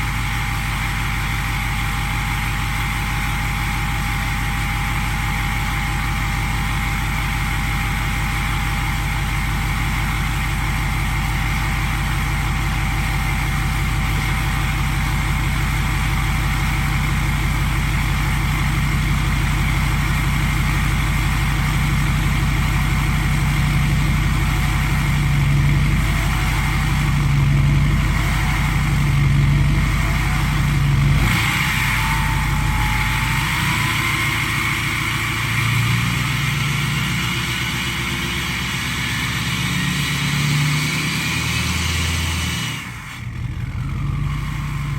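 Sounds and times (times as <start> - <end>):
diesel engine idling: 0.0 - 44.9
engine revving: 6.9 - 44.9.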